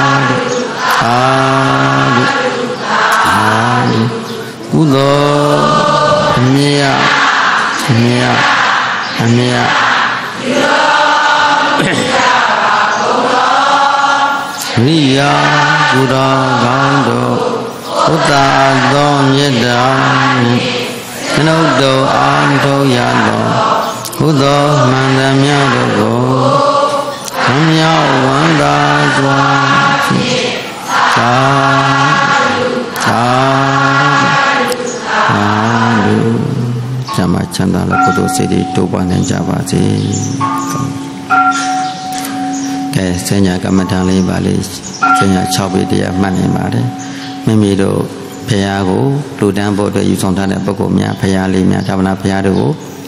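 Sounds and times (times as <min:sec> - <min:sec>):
congregation chanting in unison: 0:00.0 - 0:53.0.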